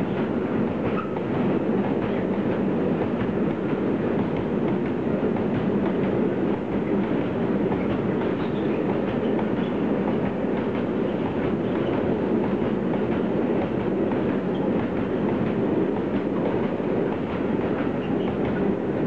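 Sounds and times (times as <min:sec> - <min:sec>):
freight train wagons rumbling: 0:00.0 - 0:19.0.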